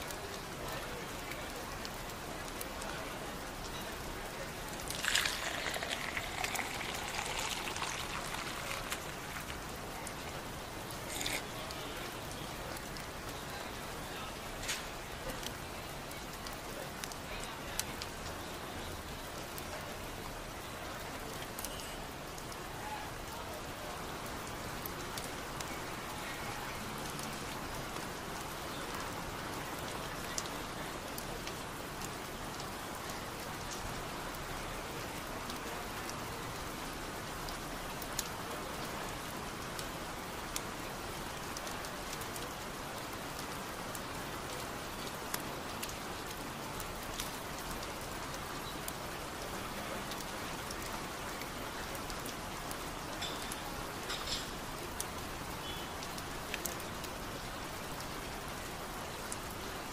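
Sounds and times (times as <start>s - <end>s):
sharp raindrop ticks: 0.0s - 59.9s
steady rain patter: 0.0s - 59.9s.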